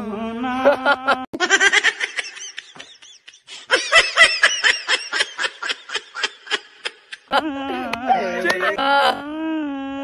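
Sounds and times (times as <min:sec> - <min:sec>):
young men laughing: 0:00.7 - 0:09.2.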